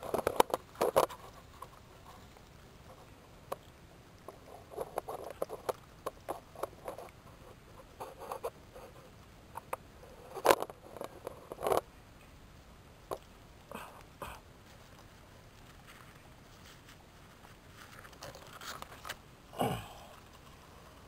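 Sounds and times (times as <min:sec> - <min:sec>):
leaves rustling: 0:00.0 - 0:21.0.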